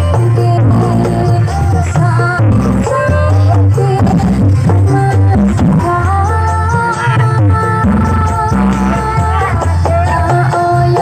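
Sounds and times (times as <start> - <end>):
loud music with heavy bass: 0.0 - 11.0.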